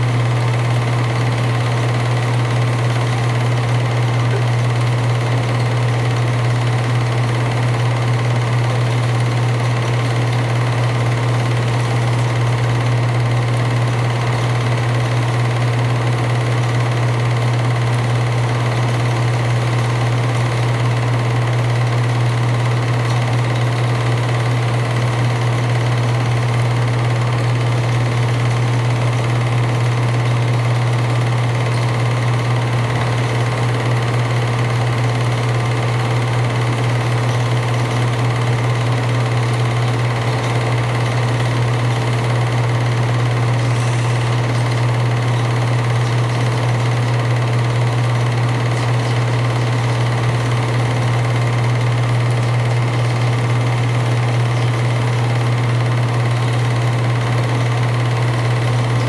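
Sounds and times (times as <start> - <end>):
film projector motor whirring: 0.0 - 59.0.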